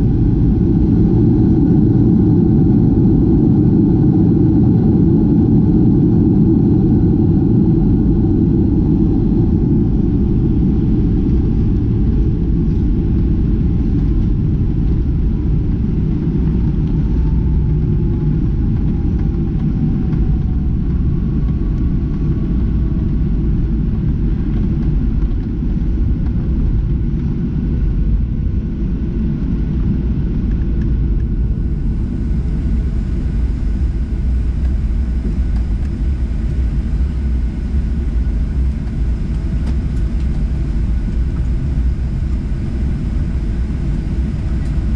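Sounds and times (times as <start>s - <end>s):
airliner low rumble: 0.0s - 44.9s.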